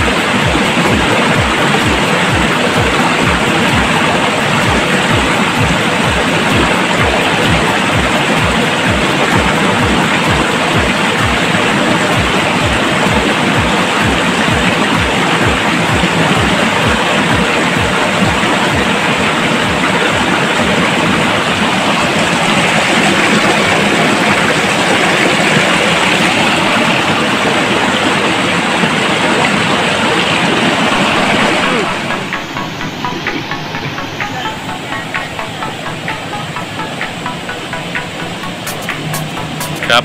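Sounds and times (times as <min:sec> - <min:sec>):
low faint thumping beat: 0:00.0 - 0:27.4, 0:30.2 - 0:40.0
water rushing over rocks: 0:00.0 - 0:40.0.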